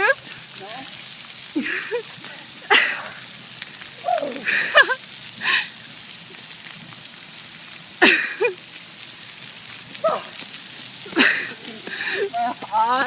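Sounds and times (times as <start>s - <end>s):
fountain water: 0.0s - 13.0s
rain: 0.0s - 13.0s.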